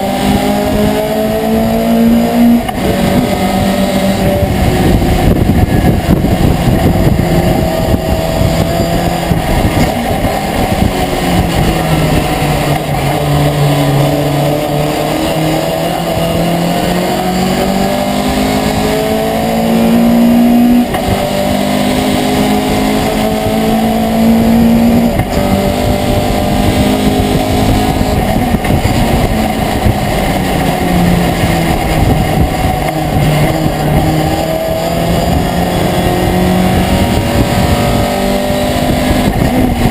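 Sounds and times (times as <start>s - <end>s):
truck engine accelerating: 0.0s - 39.9s.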